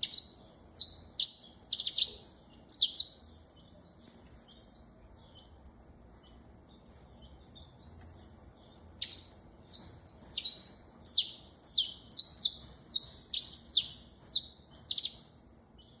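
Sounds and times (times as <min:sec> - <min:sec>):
finch singing sharp chirps: 0:00.0 - 0:05.6, 0:06.3 - 0:16.0.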